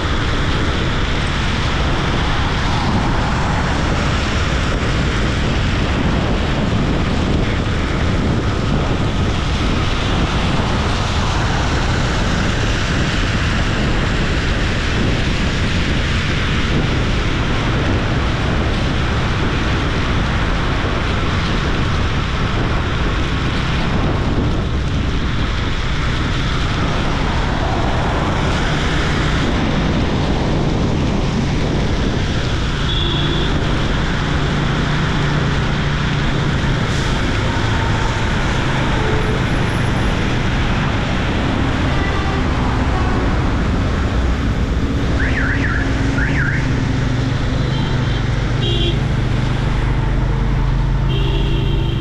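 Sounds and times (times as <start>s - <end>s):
motorcycle engine and road noise: 0.0s - 52.0s
wind rushing over microphone: 0.0s - 52.0s.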